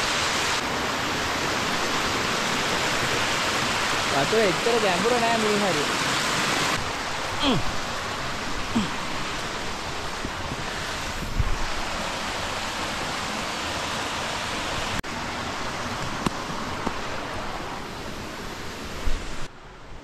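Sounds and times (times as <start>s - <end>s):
waterfall rushing over rocks: 0.0s - 19.5s.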